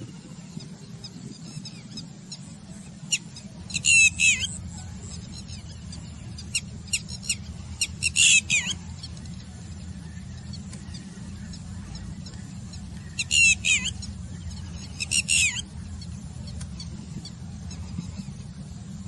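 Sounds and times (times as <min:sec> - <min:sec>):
steady low rumble: 0:00.0 - 0:19.0
lapwing alarm call: 0:01.5 - 0:18.5.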